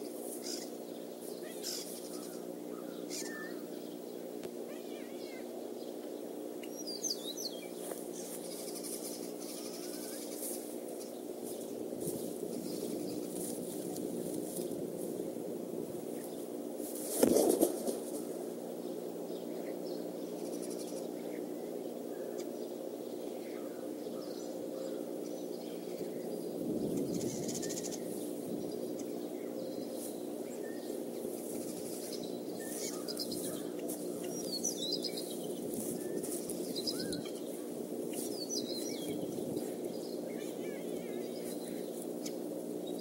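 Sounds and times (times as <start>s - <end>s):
low steady hum: 0.0s - 43.0s
songbirds chirping: 0.0s - 43.0s.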